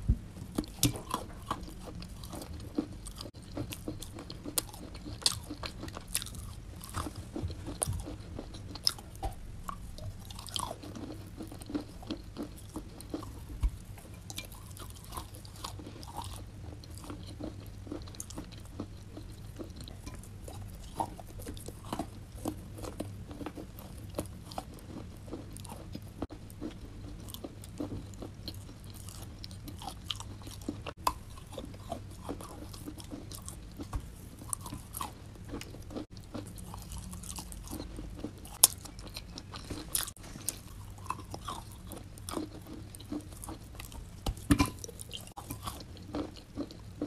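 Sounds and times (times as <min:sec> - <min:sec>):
chalk crunching while chewing: 0:00.4 - 0:47.0.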